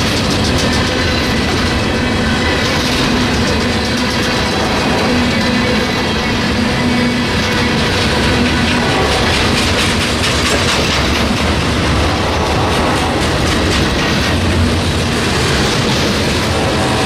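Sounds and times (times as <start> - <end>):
freight train rumbling past: 0.0 - 17.0
steel wheels clattering over rail joints: 0.0 - 17.0.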